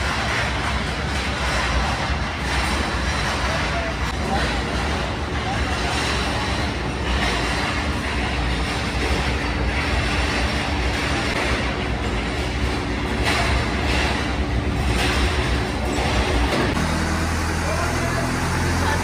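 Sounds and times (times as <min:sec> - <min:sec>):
workshop machinery din: 0:00.0 - 0:19.0.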